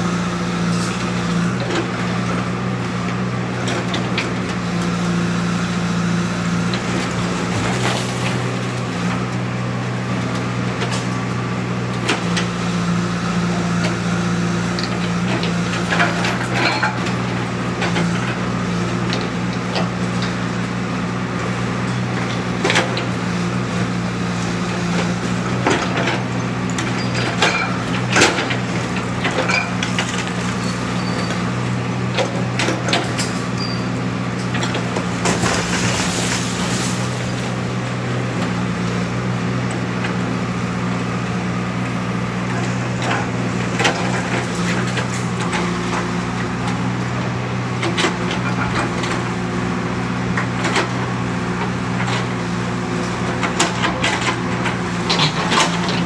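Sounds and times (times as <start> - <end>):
backhoe engine running: 0.0 - 56.0.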